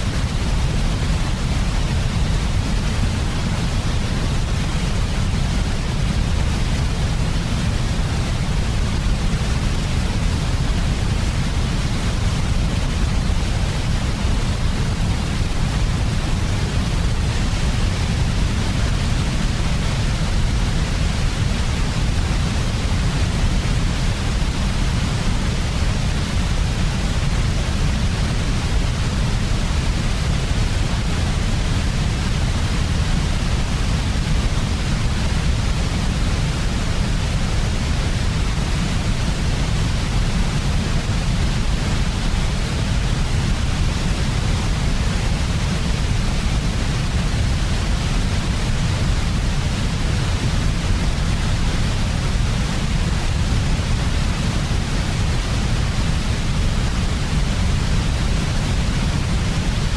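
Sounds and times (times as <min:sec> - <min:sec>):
white noise hiss with low rumble: 0:00.0 - 0:59.9.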